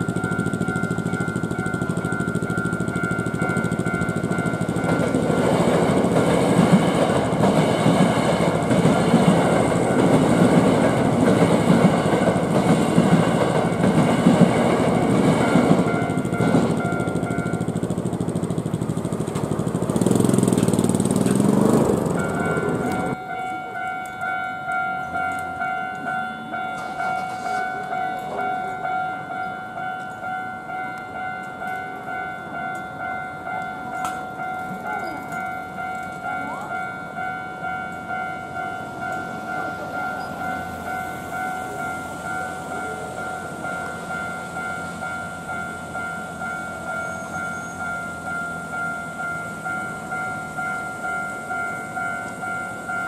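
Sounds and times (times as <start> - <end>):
level crossing warning bell: 0.0 - 53.0
train wheels rumbling on track: 0.0 - 53.0.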